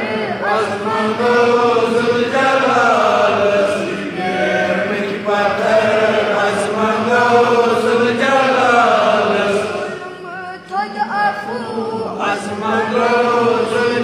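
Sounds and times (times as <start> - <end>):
crowd chanting a hymn: 0.0 - 14.0
single voice singing: 0.0 - 14.0.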